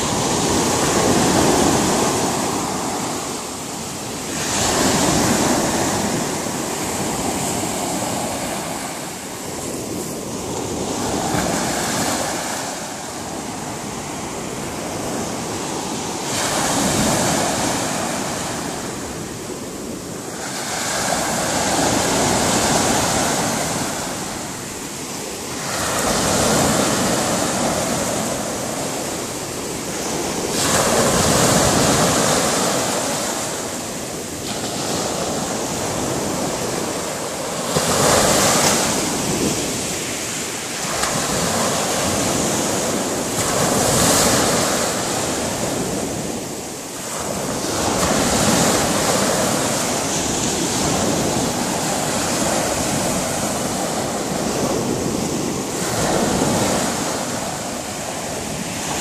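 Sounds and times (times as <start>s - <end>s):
small waves washing up shore: 0.0s - 59.0s.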